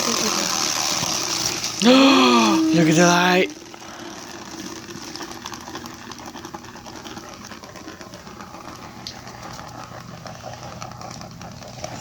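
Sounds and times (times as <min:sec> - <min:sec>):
small motor whirring: 0:00.0 - 0:12.0.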